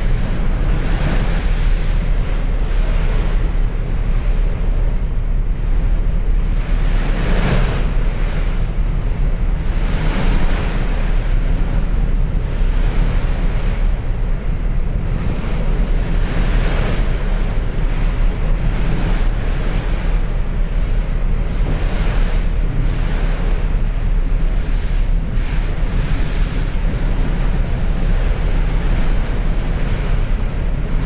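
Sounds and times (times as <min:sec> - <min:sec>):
low engine rumble: 0:00.0 - 0:31.0
sea water rushing: 0:00.0 - 0:31.0
wind buffeting microphone: 0:00.0 - 0:31.0.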